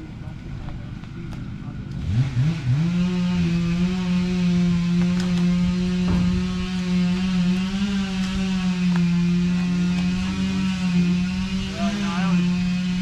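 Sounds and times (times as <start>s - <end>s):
engine droning at high speed: 0.0s - 13.0s.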